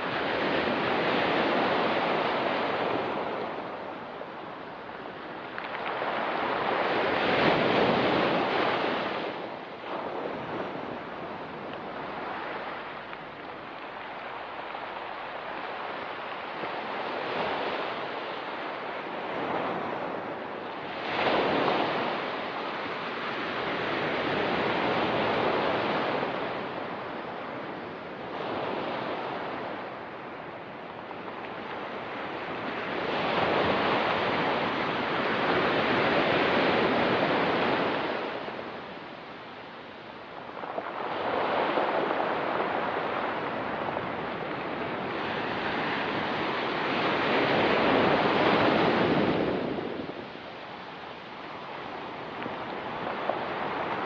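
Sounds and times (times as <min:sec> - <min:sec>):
ocean waves on rocky beach: 0:00.0 - 0:54.0.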